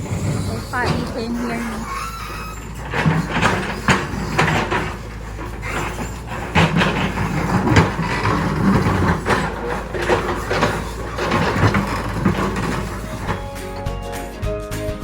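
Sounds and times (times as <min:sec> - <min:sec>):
rocks clanking and scraping: 0:00.0 - 0:14.4
backhoe engine running: 0:00.0 - 0:15.0.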